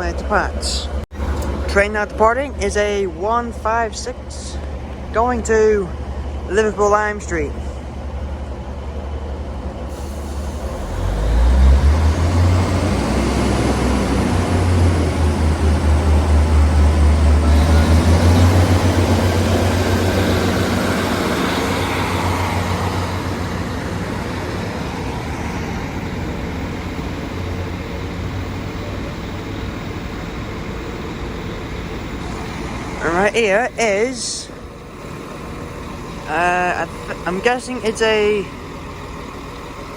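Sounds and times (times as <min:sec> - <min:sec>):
diesel train engines throbbing: 0:00.0 - 0:39.9.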